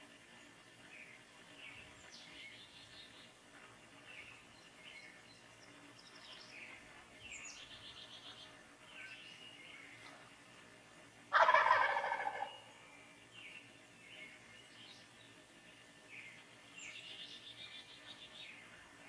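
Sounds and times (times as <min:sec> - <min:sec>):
low hiss: 0:00.0 - 0:19.0
songbirds chirping and whistling: 0:00.2 - 0:19.0.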